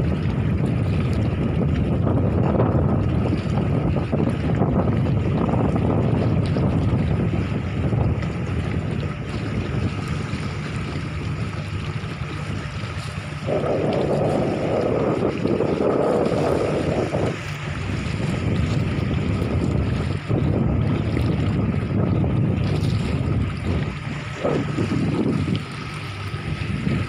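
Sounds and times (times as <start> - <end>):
steady low hum: 0.0 - 27.0
water around boat: 0.0 - 27.0
wind buffeting microphone: 0.0 - 27.0.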